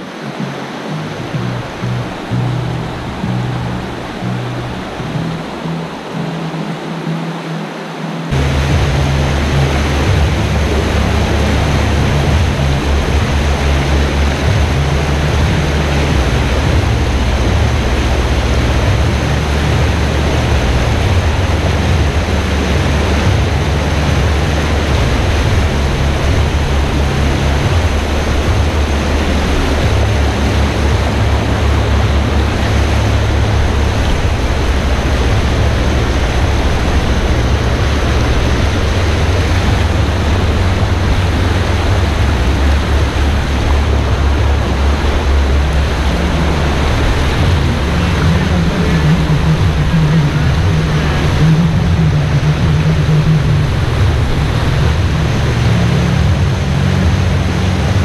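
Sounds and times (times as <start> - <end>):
heavy low rumble: 0.0 - 58.0
whitewater roaring over rocks: 0.0 - 58.0.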